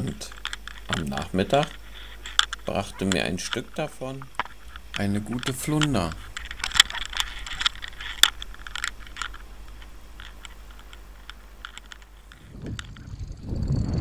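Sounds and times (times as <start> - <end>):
faint low hum: 0.0 - 14.0
sharp underwater clicks: 0.2 - 13.2.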